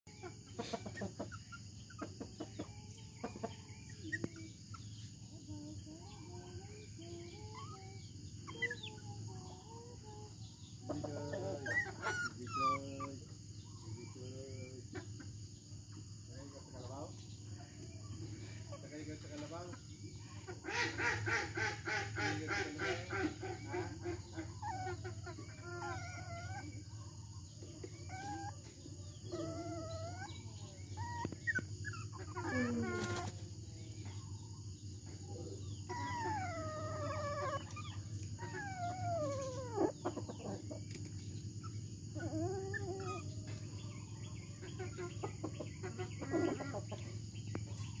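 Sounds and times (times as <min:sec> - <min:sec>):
chickens clucking and calling: 0:00.1 - 0:48.0.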